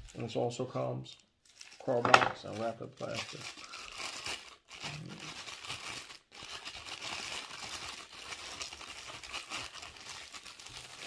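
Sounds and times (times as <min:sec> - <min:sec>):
plastic packaging crinkling and tearing: 0:00.0 - 0:11.0.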